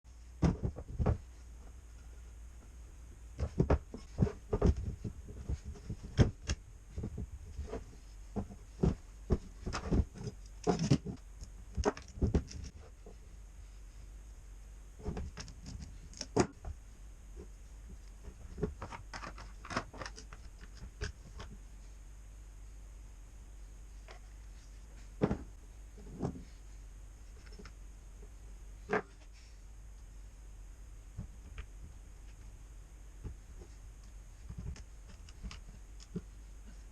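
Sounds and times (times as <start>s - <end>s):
faint steady hum: 0.1s - 36.9s.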